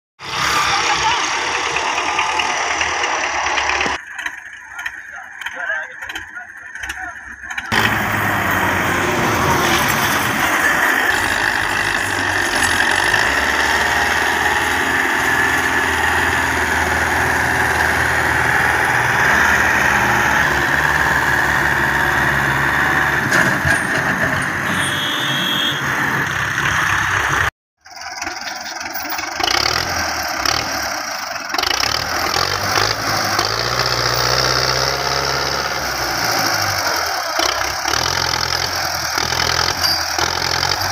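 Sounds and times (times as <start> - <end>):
tractor diesel engine under load: 0.2 - 40.9.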